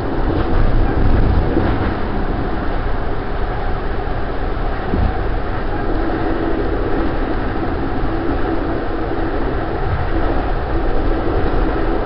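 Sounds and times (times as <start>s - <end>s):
droning hum: 0.0s - 12.0s
train rumbling: 0.0s - 12.0s.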